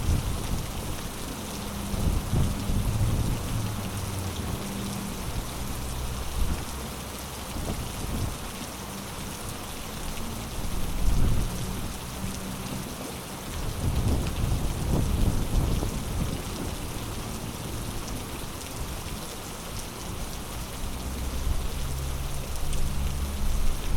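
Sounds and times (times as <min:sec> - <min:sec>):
heavy rain pouring: 0:00.0 - 0:23.9.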